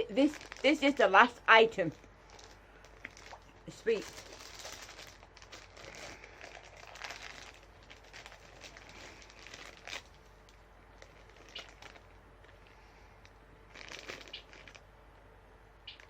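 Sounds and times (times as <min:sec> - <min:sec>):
plastic packet crinkling: 0:00.0 - 0:14.9.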